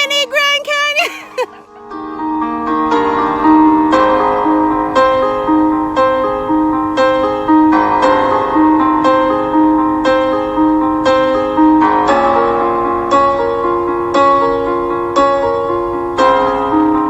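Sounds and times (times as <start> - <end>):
gentle piano melody: 1.1 - 17.0.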